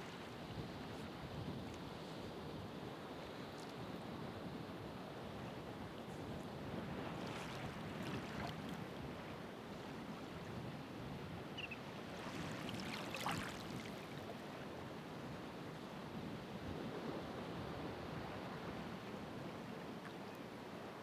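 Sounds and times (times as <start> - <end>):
ocean waves washing ashore: 0.0 - 21.0.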